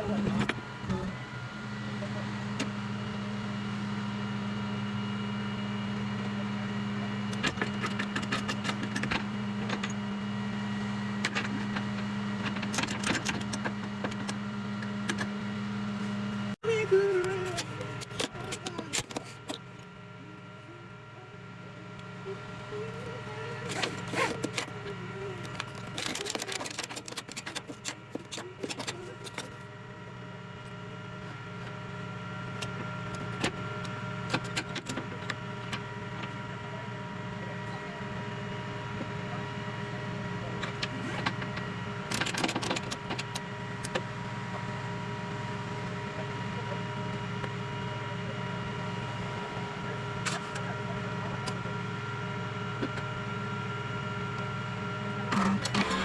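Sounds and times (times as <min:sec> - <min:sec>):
truck engine and road drone: 0:00.0 - 0:56.0.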